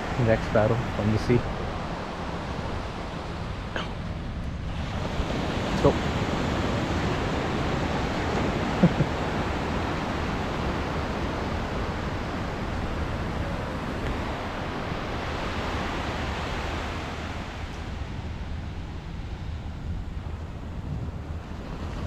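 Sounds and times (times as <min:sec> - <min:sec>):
ocean surf breaking: 0:00.0 - 0:22.0.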